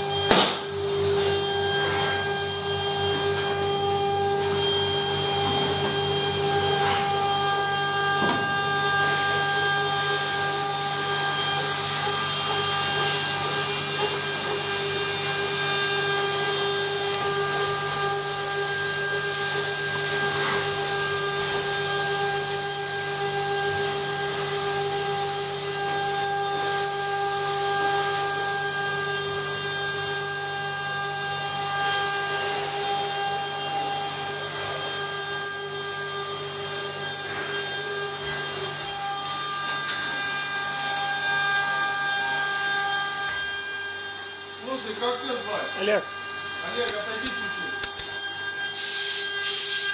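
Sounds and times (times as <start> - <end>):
router machine whine: 0.0 - 49.9.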